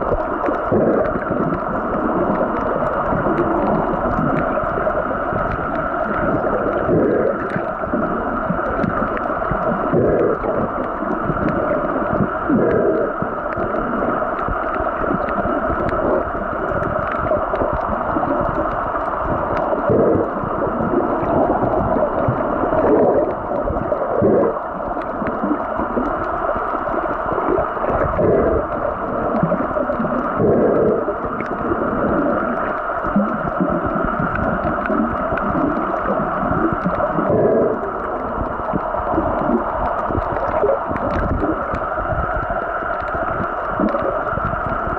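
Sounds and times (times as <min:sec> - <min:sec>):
muffled underwater rushing: 0:00.0 - 0:44.9
water swishing: 0:00.0 - 0:44.9.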